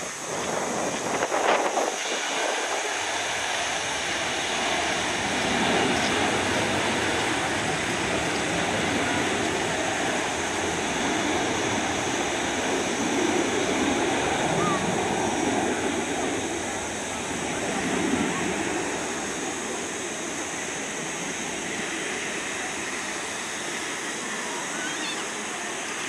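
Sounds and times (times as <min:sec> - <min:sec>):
distant jet engines rushing: 0:00.0 - 0:26.0.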